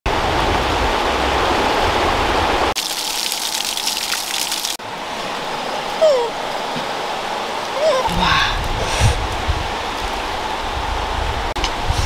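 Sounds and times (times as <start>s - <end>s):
river water rushing over stones: 0.1s - 11.1s.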